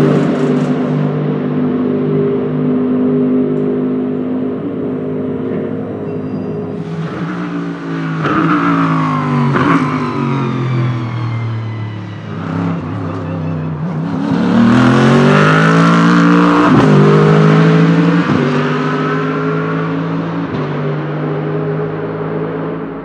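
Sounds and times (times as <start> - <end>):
race car engine passing: 0.0 - 23.0.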